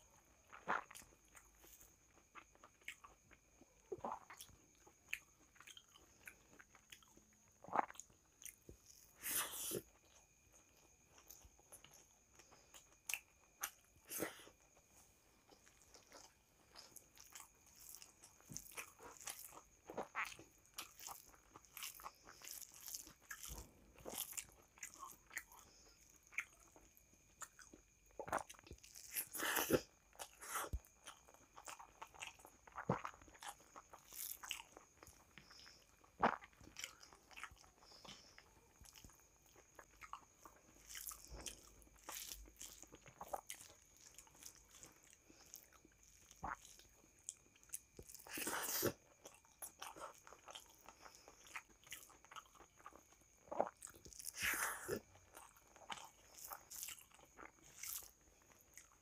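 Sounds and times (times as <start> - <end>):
person chewing with wet clicks: 0.0 - 9.2, 9.8 - 59.0.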